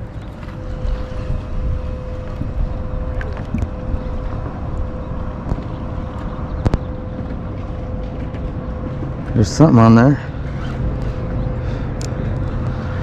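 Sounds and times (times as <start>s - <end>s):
faint high hum: 0.0s - 13.0s
wind rumbling on microphone: 0.0s - 13.0s.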